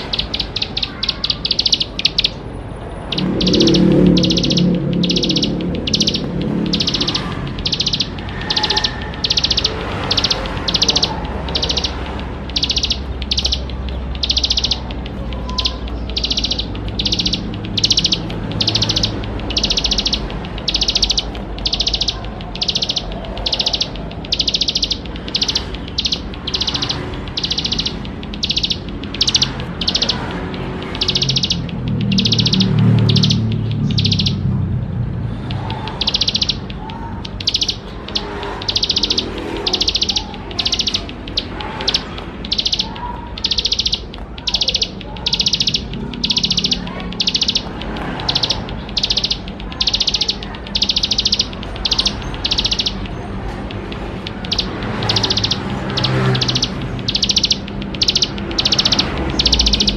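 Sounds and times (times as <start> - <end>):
bird singing high repeated notes: 0.0 - 59.9.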